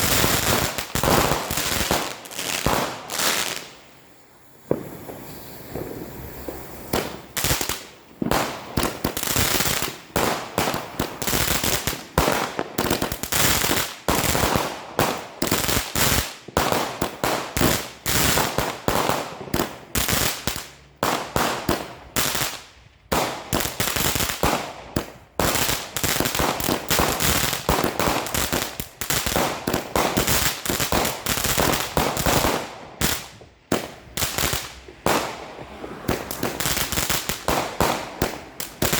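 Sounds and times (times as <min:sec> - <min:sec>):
firework battery shots and bangs: 0:00.0 - 0:38.9.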